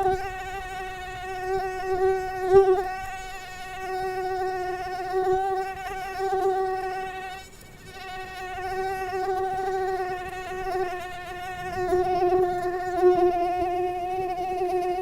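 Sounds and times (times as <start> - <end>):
mosquito wings whining: 0.0 - 15.0.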